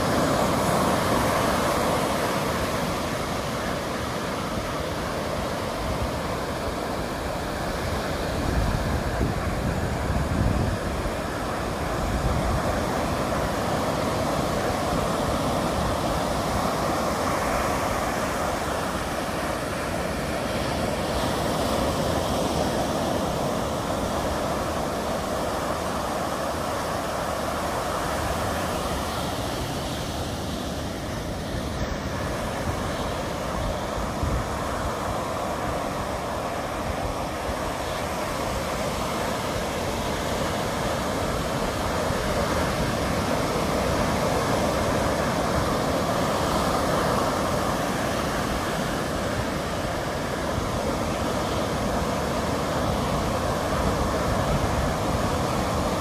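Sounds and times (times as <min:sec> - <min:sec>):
surf breaking on a beach: 0:00.0 - 0:56.0.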